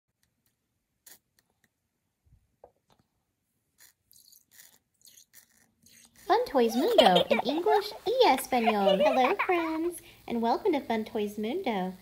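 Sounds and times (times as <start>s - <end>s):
faint clicks and rustles of a toy: 0.1s - 12.0s.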